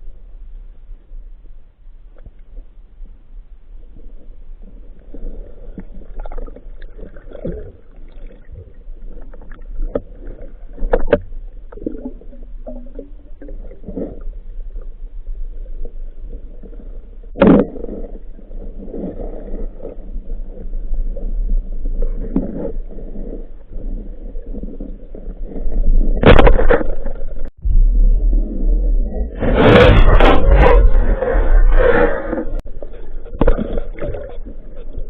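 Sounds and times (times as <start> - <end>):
muffled underwater water movement: 0.0 - 35.0
underwater bubbling: 3.9 - 35.0.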